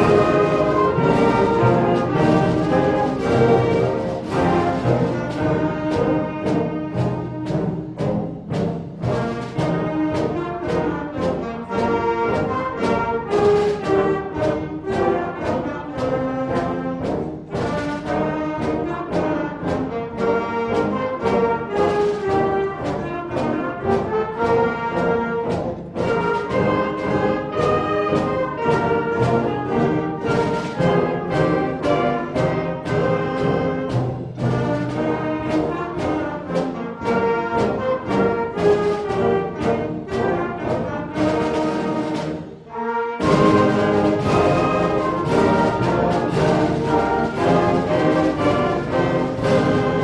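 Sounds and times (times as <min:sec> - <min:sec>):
percussion beat: 0:00.0 - 0:42.6, 0:43.2 - 0:50.0
concert band playing a march: 0:00.0 - 0:50.0.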